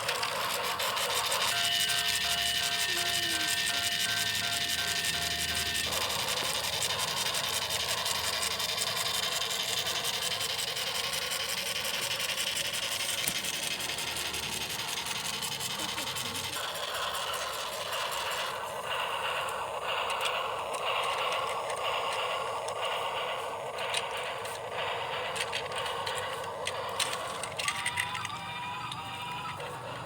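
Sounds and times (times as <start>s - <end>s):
toy gears clicking and whirring: 0.0s - 30.0s.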